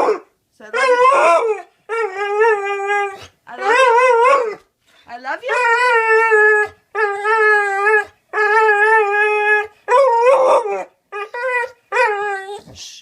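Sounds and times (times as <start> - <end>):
dog howling: 0.0 - 4.6, 5.5 - 12.8.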